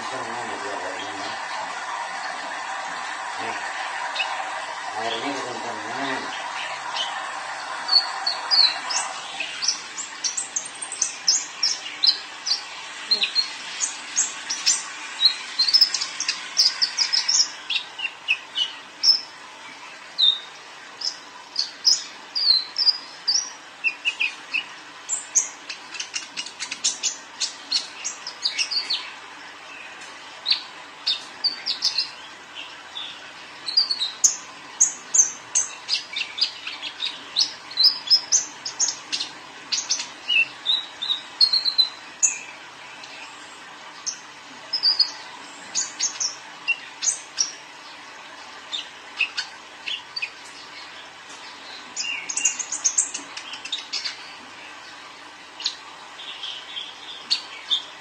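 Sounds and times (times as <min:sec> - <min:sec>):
sunbird chirping and trilling: 0:00.0 - 0:58.0.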